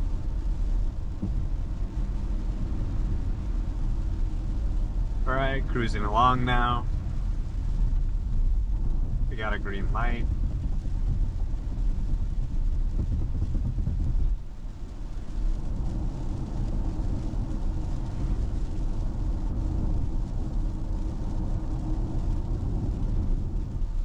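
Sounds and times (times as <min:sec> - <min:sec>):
road and tyre noise on wet road: 0:00.0 - 0:24.0.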